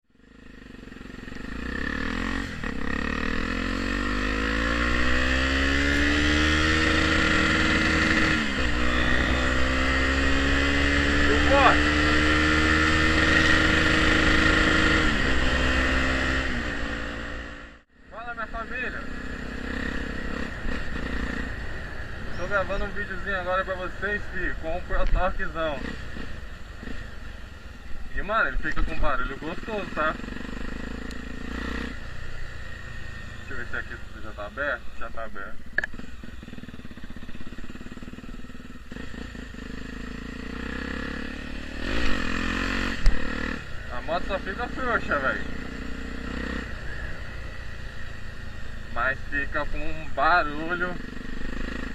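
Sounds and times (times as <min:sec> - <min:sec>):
motorcycle engine running: 0:00.1 - 0:51.9.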